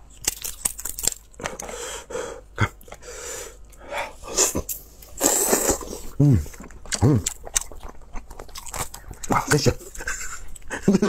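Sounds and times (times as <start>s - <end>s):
sucking and chewing: 0.0s - 10.9s.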